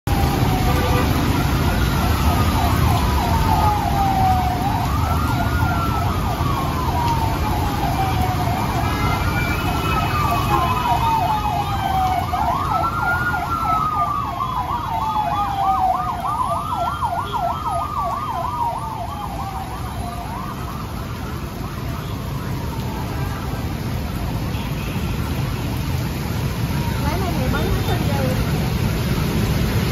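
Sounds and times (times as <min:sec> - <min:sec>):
ambulance siren wailing and yelping: 0:00.1 - 0:24.3
motorbike traffic on wet road: 0:00.1 - 0:29.9.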